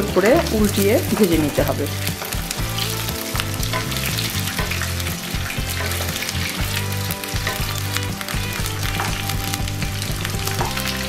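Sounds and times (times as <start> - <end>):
eggplant sizzling in oil: 0.0 - 11.0
wooden spatula turning food: 0.0 - 11.0.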